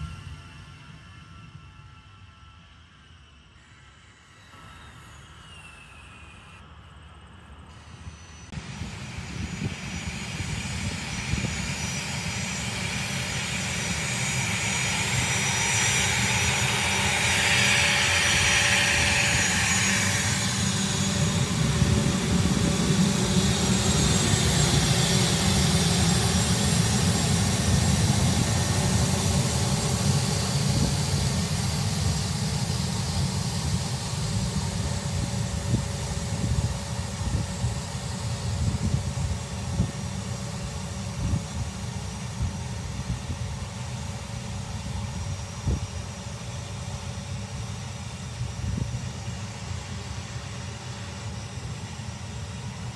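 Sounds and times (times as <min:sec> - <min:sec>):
aircraft engines whining: 0:00.0 - 0:52.9.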